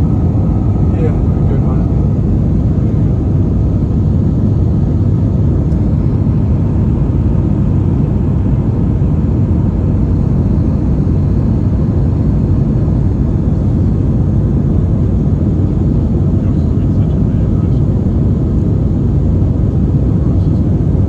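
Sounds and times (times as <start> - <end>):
airplane cabin engine roar: 0.0 - 21.0.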